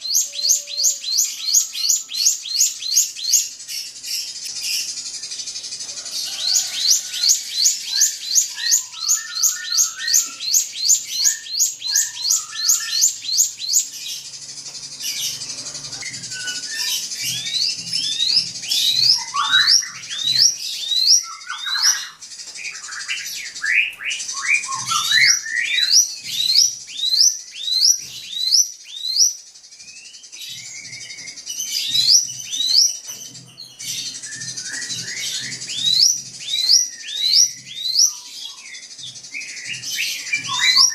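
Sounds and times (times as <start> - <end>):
bird singing rising whistles: 0.0 - 40.9.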